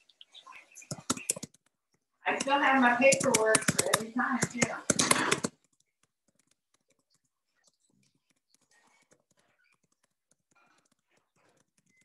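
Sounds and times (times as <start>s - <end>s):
person speaking: 0.4s - 12.0s.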